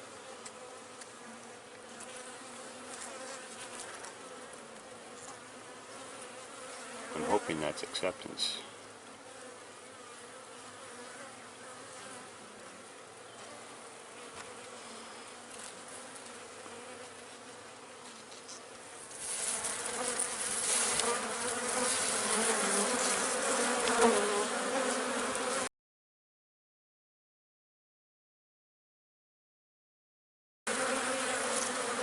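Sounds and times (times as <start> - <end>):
honeybees buzzing: 0.0 - 25.7, 30.7 - 32.0.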